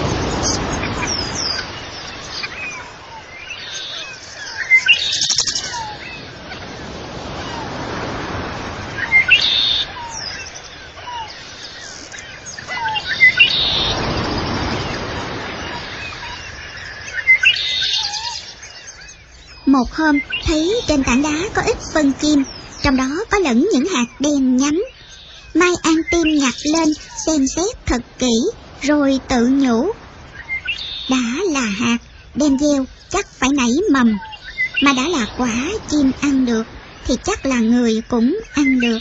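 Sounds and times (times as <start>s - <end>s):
birds chirping and tweeting: 0.0s - 39.0s.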